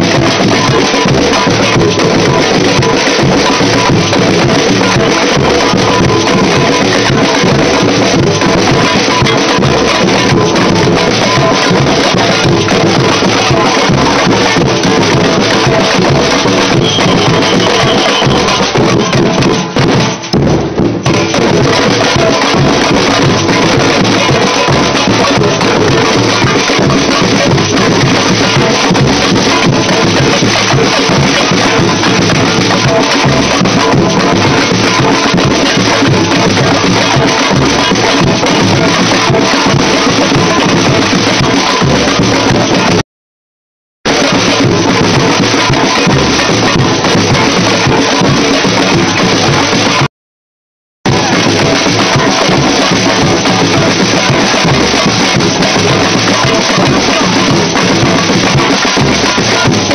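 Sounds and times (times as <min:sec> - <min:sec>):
samba band drumming: 0:00.0 - 0:43.0, 0:44.0 - 0:50.1, 0:51.1 - 0:59.9.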